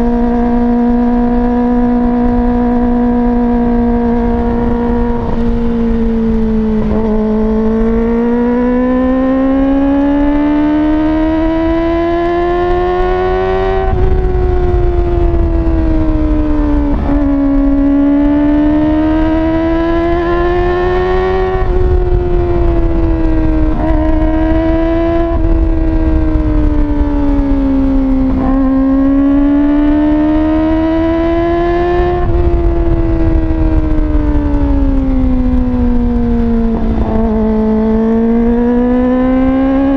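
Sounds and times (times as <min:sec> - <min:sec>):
motorcycle engine revving high: 0:00.0 - 0:39.9.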